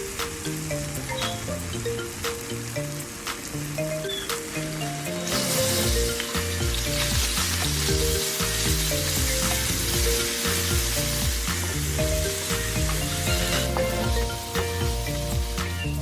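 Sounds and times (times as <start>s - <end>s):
background music: 0.0s - 16.0s
chicken sizzling in a pan: 0.0s - 16.0s.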